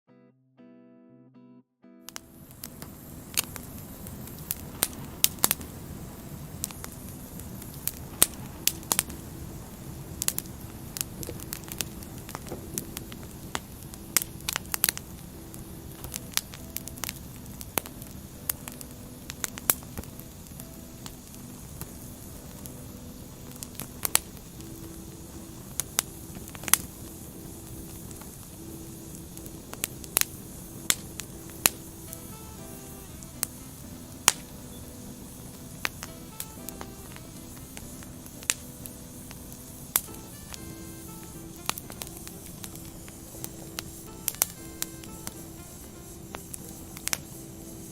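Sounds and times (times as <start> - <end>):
fire pops and snaps: 2.1 - 47.9
wood fire crackling: 2.1 - 47.9.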